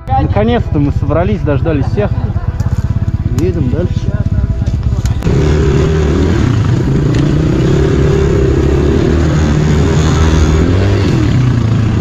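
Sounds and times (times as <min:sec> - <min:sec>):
motorcycle engine revving: 0:00.3 - 0:12.0.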